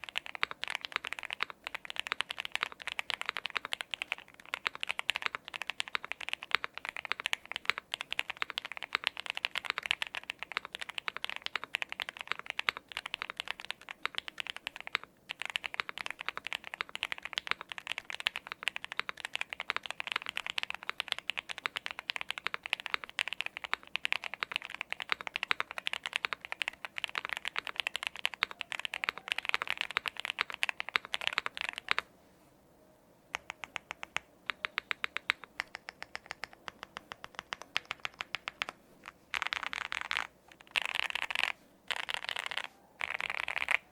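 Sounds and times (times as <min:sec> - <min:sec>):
mechanical keyboard typing: 0:00.0 - 0:32.1, 0:33.3 - 0:43.9.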